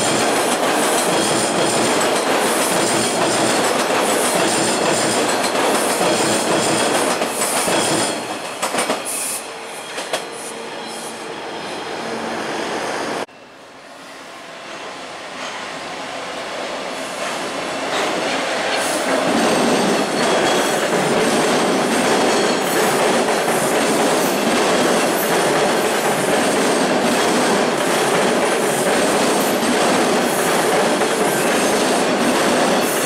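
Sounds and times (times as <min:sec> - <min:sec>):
subway train running past: 0:00.0 - 0:33.0.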